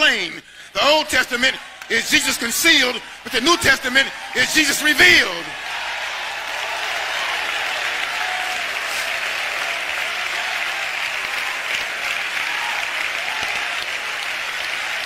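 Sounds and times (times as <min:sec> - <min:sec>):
congregation applauding: 0:00.9 - 0:15.0.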